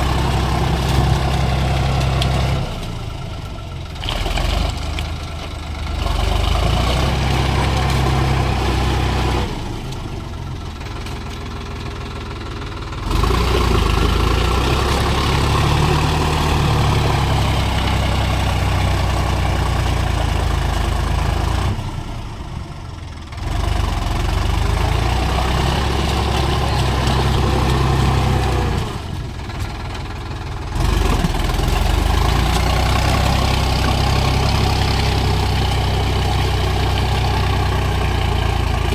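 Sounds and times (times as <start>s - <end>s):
tractor diesel engine running hard: 0.0s - 38.9s.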